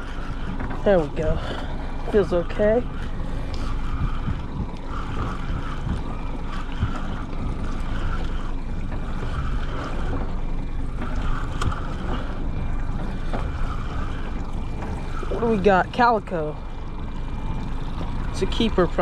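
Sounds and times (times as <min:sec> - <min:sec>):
fishing reel cranking: 0:00.0 - 0:19.0
water slapping against boat: 0:00.0 - 0:19.0
wind buffeting microphone: 0:00.0 - 0:19.0.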